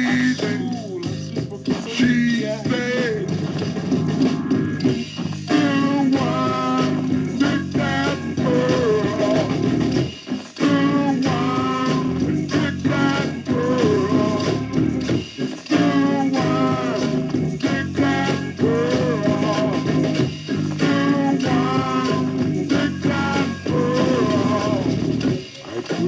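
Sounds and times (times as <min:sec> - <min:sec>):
person singing: 0:00.0 - 0:26.0
rock band playing: 0:00.0 - 0:26.0.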